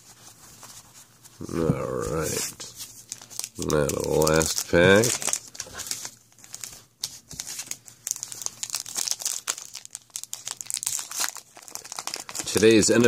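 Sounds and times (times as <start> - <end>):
wrapper crinkling and tearing: 1.9 - 13.0.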